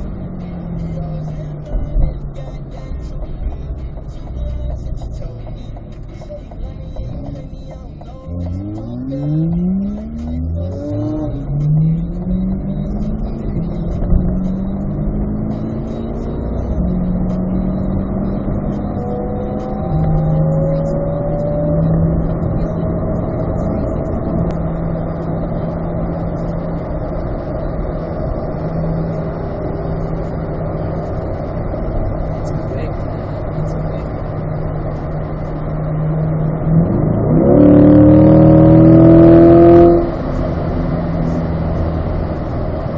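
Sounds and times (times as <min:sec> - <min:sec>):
sports car engine accelerating: 0:00.0 - 0:42.9.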